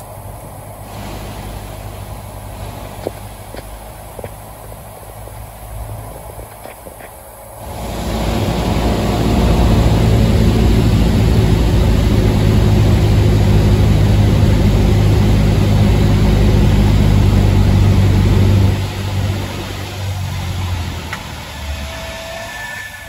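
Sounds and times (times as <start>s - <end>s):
propeller plane engine: 0.0s - 23.0s.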